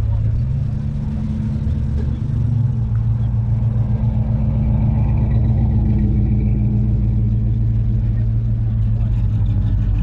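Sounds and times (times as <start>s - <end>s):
car engine rumbling at low revs: 0.0s - 10.0s.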